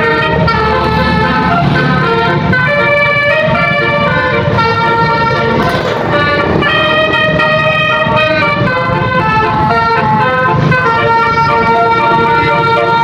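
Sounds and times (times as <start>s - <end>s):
multi-tone bus horn melody: 0.0s - 13.0s.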